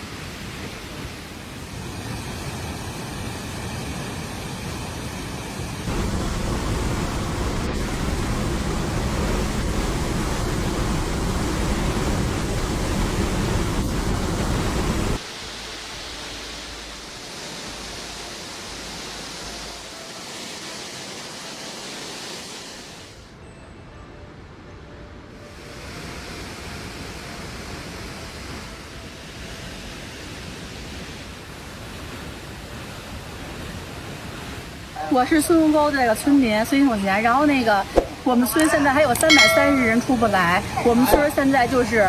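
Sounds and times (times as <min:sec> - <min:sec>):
floodwater rushing: 0:00.0 - 0:23.2, 0:25.6 - 0:42.0.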